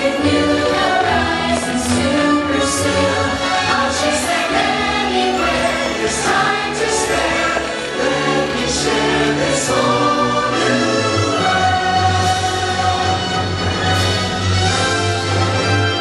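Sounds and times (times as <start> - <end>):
music with choir singing: 0.0 - 16.0.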